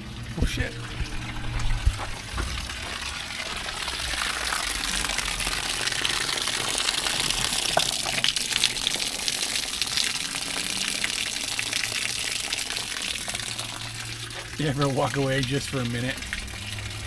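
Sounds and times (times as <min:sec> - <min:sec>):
water gushing and splashing: 0:00.0 - 0:17.0.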